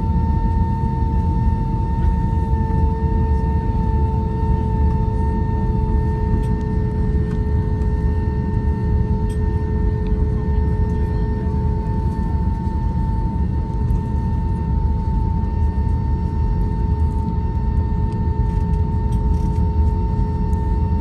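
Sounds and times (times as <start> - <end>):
constant droning hum: 0.0 - 21.0
jet engines low rumble: 0.0 - 21.0.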